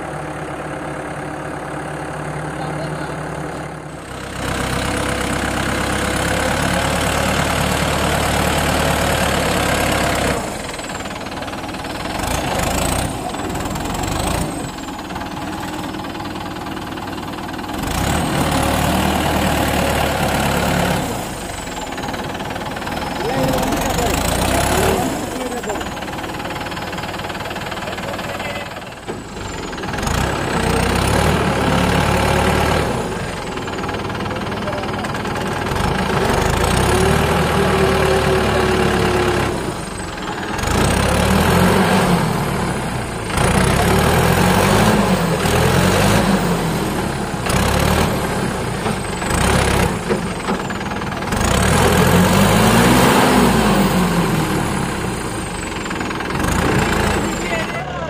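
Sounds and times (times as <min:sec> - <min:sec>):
tractor diesel engine revving: 0:00.0 - 0:58.0.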